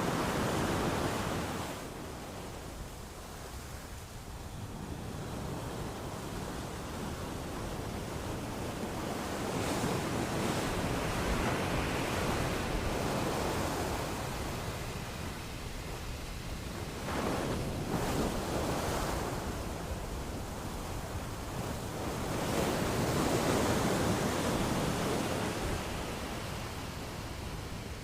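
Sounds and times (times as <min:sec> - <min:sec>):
ocean waves on shore: 0:00.0 - 0:28.0.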